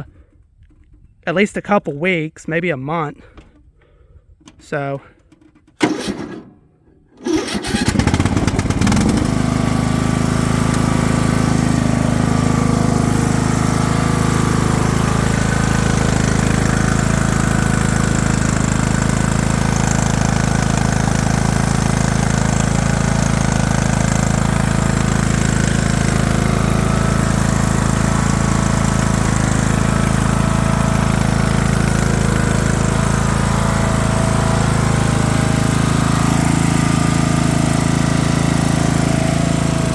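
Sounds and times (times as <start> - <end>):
riding mower engine starting: 3.2 - 39.9.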